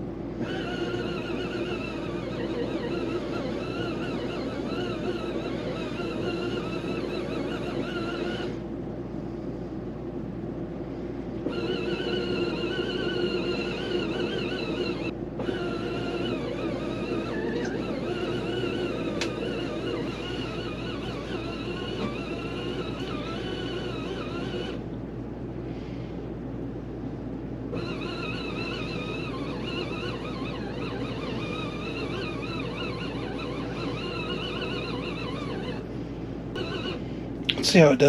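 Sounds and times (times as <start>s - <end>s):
wavering high whine: 0.0s - 8.6s, 11.3s - 25.0s, 27.4s - 38.0s
washing machine motor hum: 0.0s - 38.0s.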